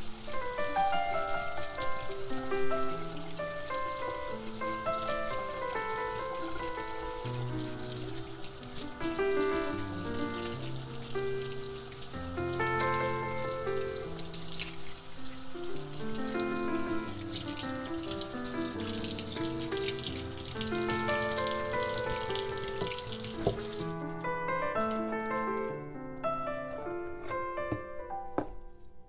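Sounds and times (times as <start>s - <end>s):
tap water running into sink: 0.0s - 25.7s
water splashing over vegetables: 0.0s - 25.7s.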